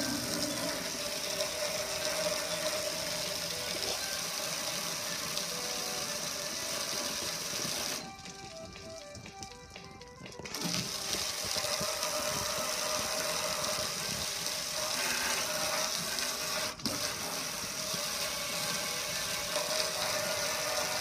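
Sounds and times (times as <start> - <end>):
pressure washer spraying a grill: 0.0 - 8.1, 10.5 - 21.0.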